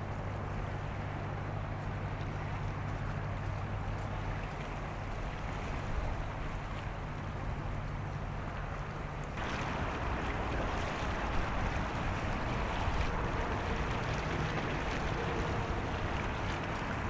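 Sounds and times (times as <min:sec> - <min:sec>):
moving water: 0:00.0 - 0:17.0
wind: 0:00.0 - 0:17.0.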